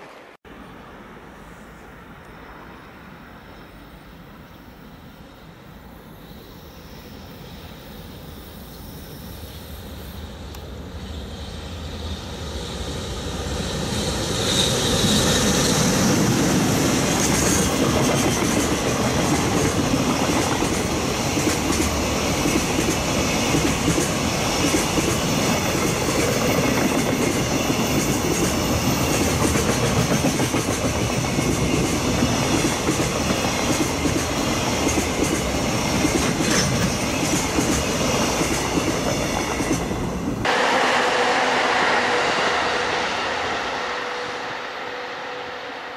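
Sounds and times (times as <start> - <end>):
freight train passing: 0.0 - 45.9.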